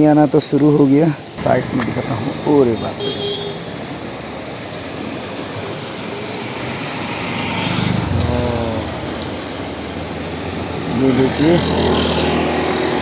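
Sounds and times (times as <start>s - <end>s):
river rushing: 1.2s - 13.0s
vehicle engine passing: 1.4s - 13.0s.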